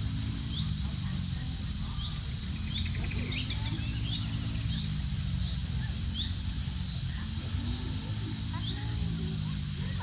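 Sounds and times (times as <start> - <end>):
high-pitched insect buzz: 0.0 - 10.0
small birds chirping: 0.0 - 10.0.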